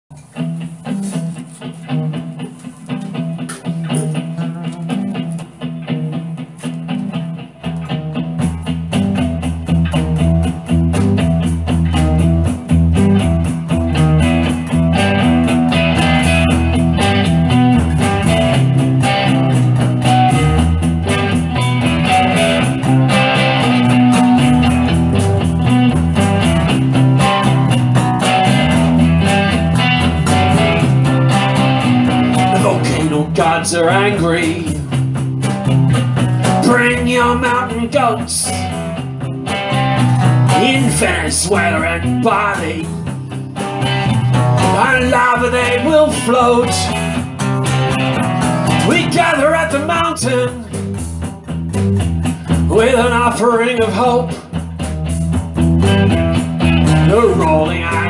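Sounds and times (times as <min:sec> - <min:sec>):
rock band with bass: 0:00.0 - 0:58.0
electric guitar playing: 0:00.1 - 0:58.0.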